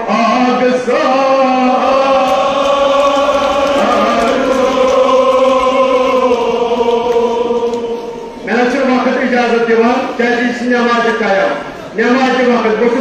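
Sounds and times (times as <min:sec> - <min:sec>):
man chanting a lament: 0:00.0 - 0:13.0.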